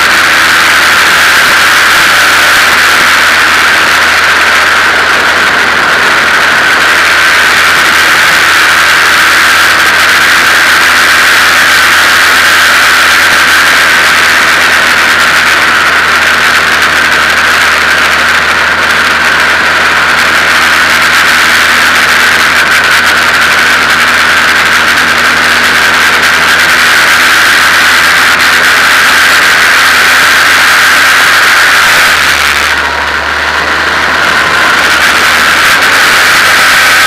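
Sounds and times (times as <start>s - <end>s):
race car engine running: 0.0s - 37.0s.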